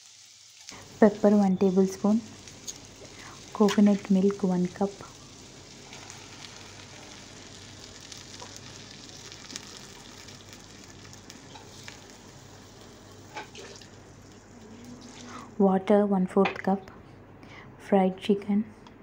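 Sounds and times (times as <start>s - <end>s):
vegetables sizzling in a frying pan: 0.0s - 15.6s.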